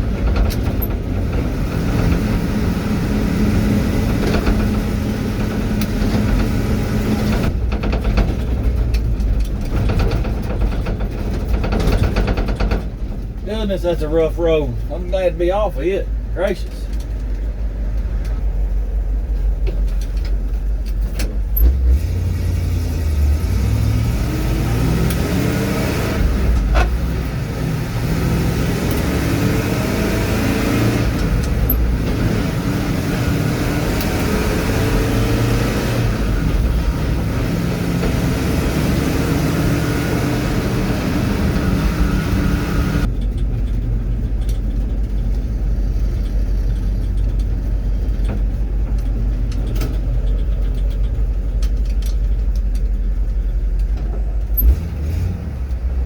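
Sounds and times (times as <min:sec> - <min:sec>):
truck engine from the cab: 0:00.0 - 0:56.0.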